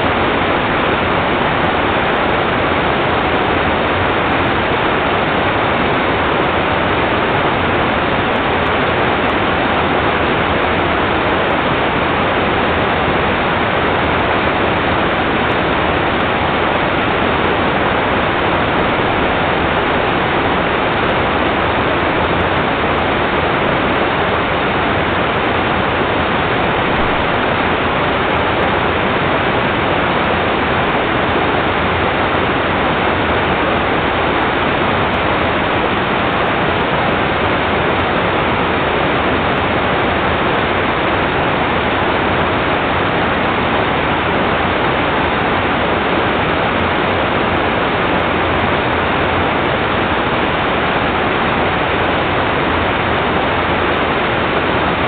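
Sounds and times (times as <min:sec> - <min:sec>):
water rushing: 0:07.9 - 0:55.0.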